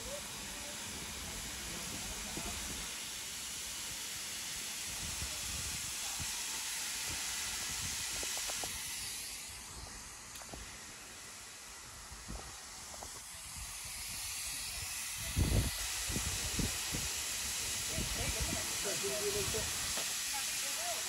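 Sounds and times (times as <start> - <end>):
steam locomotive venting steam hiss: 0.0 - 21.0.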